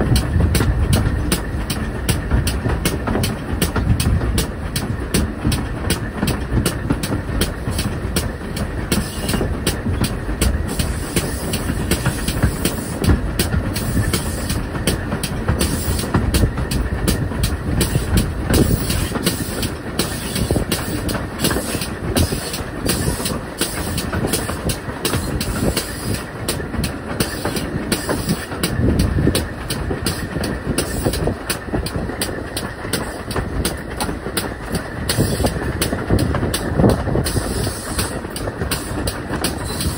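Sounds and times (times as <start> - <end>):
steam train running: 0.0 - 39.9
wheels clicking over rail joints: 0.0 - 39.9.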